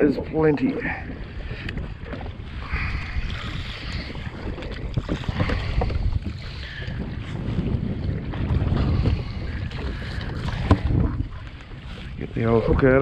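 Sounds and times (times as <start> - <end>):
choppy sea water wash: 0.0 - 13.0
wind buffeting microphone: 0.0 - 13.0.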